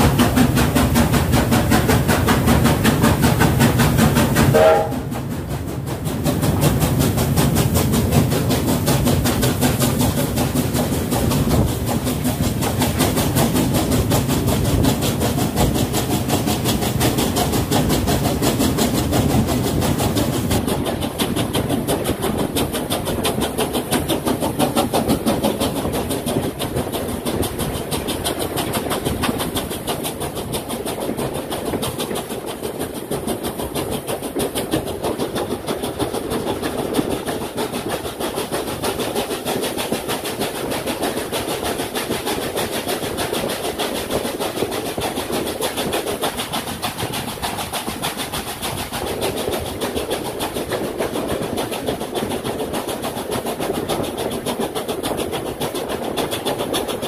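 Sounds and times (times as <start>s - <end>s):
steam locomotive exhaust beats: 0.0s - 57.0s
wheels running on rails: 0.0s - 57.0s.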